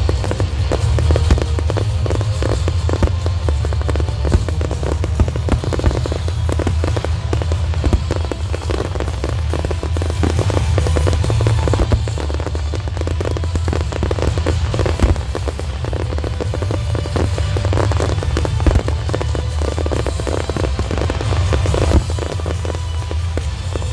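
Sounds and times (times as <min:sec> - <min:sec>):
fireworks bangs and crackles: 0:00.0 - 0:23.9
low rumble: 0:00.0 - 0:23.9.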